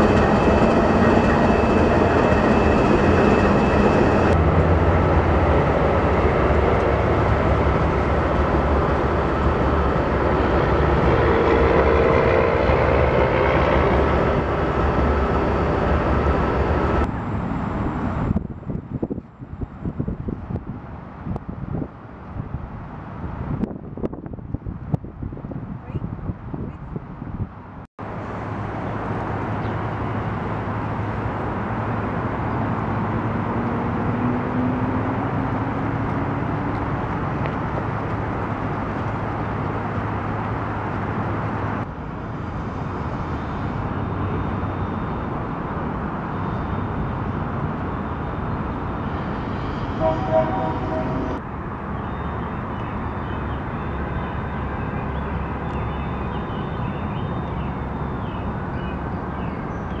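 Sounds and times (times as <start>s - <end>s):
distant road traffic: 0.0s - 24.2s, 28.0s - 60.0s.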